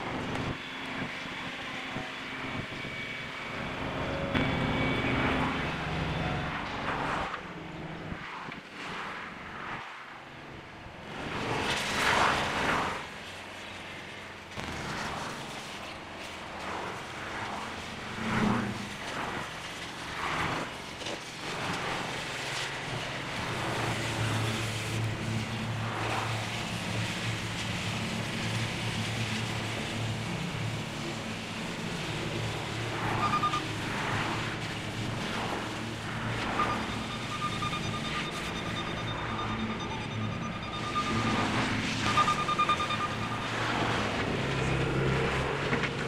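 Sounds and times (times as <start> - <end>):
heavy machinery engine hum: 0.0 - 8.2, 11.8 - 46.0.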